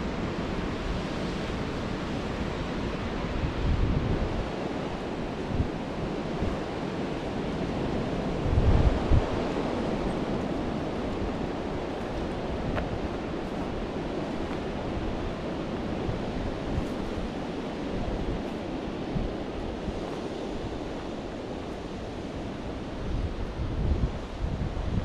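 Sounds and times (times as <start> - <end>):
wind rushing through trees: 0.0 - 25.0
wind buffeting microphone: 0.1 - 25.0.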